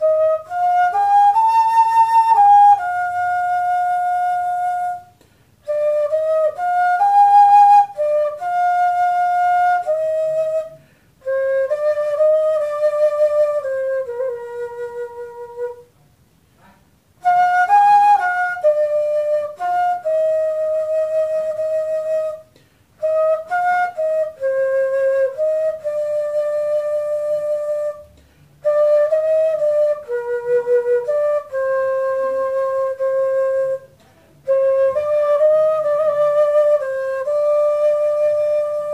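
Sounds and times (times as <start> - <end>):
flute playing slow melody: 0.0 - 16.0, 17.1 - 38.9.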